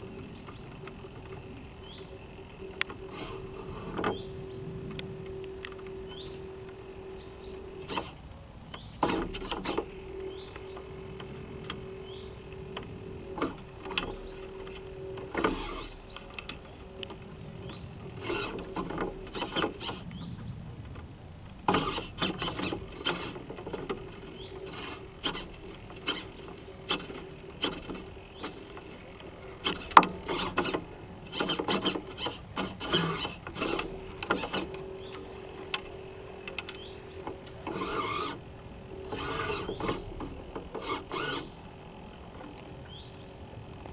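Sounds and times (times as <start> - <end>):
hull and rigging creaking: 0.0 - 43.9
steady mechanical hum: 0.0 - 43.9.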